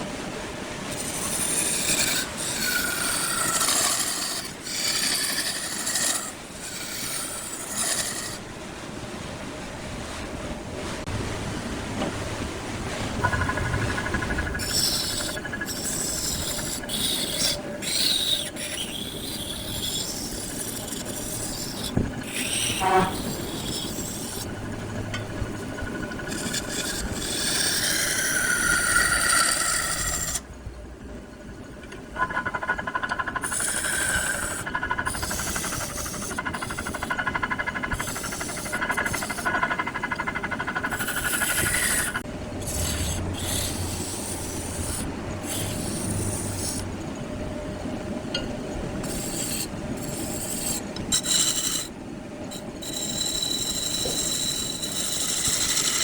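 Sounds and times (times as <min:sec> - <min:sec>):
lathe hum: 0:00.8 - 0:08.4, 0:12.0 - 0:56.0
turning tool rasping wood: 0:00.9 - 0:08.4, 0:13.2 - 0:30.5, 0:32.2 - 0:46.9, 0:49.0 - 0:56.0.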